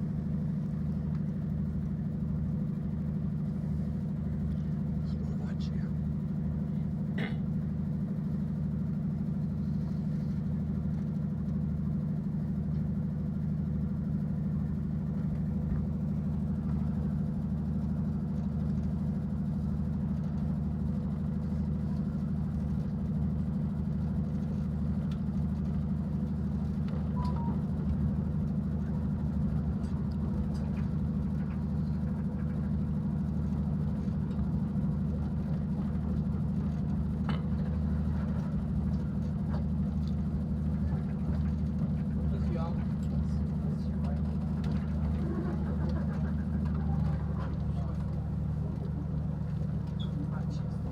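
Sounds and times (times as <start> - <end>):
locomotive deep hum: 0.0 - 50.9.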